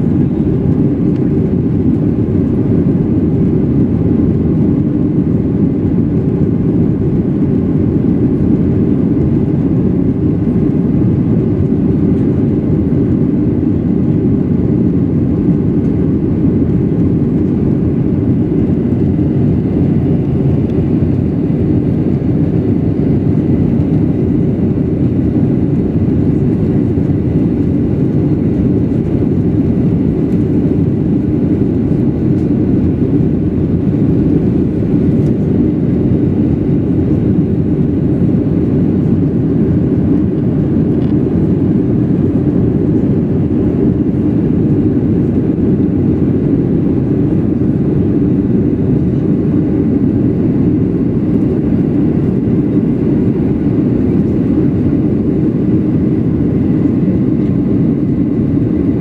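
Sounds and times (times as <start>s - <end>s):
airplane cabin engine rush: 0.0s - 59.0s.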